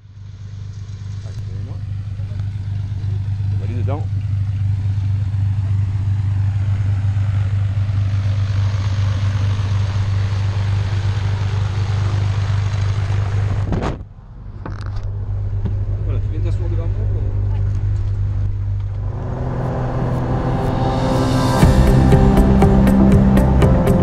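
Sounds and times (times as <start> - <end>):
propeller plane engine idling: 0.0 - 13.7, 14.4 - 24.0.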